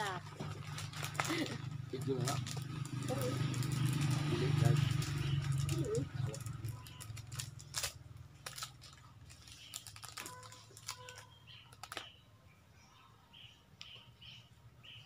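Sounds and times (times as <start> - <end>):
plastic wrappers crinkling: 0.0 - 12.2.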